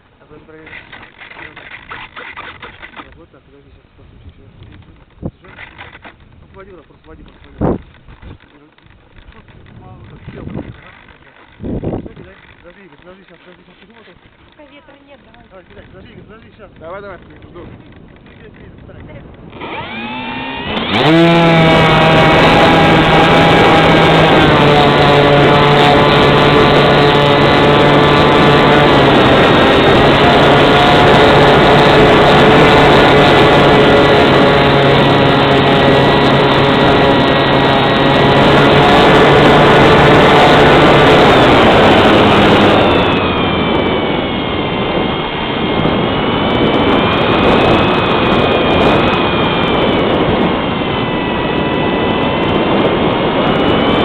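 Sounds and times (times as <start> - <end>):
motor spinning at high speed: 0.0 - 54.0.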